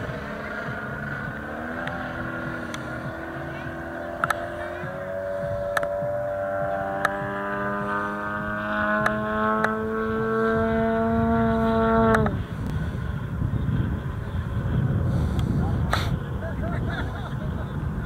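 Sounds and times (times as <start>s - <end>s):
motor running: 0.0s - 14.8s
wind rumble on microphone: 0.0s - 18.0s.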